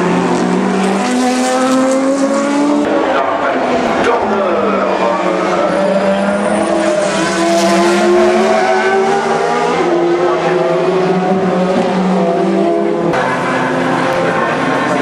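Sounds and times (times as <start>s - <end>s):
race car engine passing at speed: 0.0s - 15.0s.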